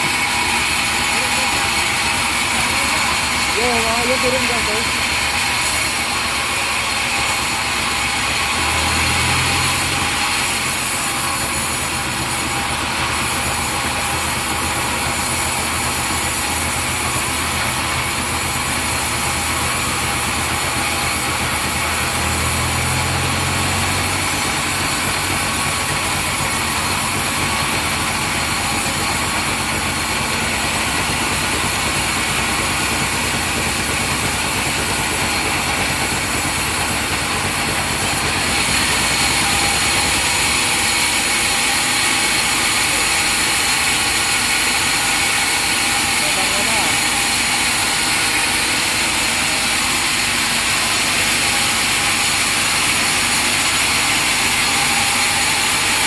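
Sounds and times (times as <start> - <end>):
sawmill machinery whirring: 0.0 - 56.0.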